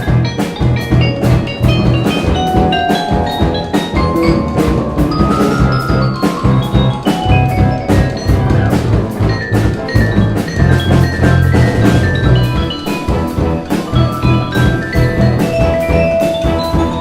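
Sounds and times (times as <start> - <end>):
busy bass line: 0.0 - 17.0
drum kit hits: 0.0 - 17.0
mallet percussion notes: 0.0 - 17.0
steel pan: 0.0 - 17.0.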